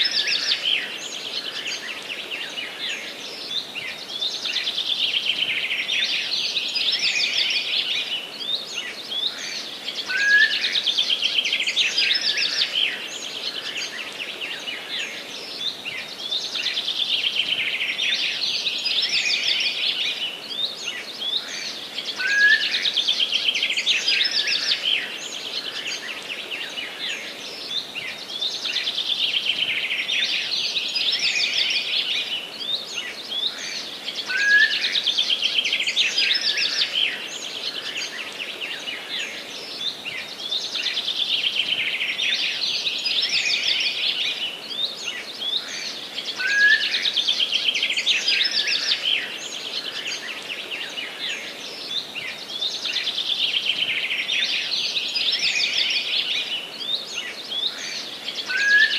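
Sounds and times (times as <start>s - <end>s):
faint background hiss: 0.0s - 58.9s
songbird singing: 0.0s - 58.9s.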